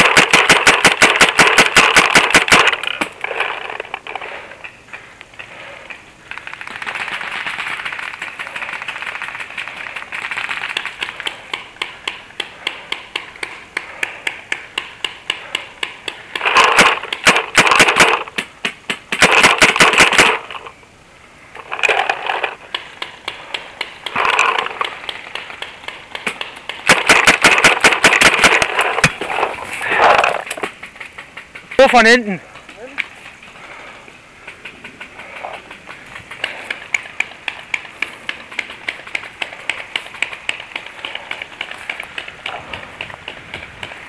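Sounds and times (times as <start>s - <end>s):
paintball guns rapid fire: 0.0s - 4.2s, 6.4s - 20.7s, 21.6s - 32.3s, 33.7s - 44.0s
steady ticking clicks: 0.0s - 20.8s, 21.6s - 29.2s, 30.4s - 44.0s.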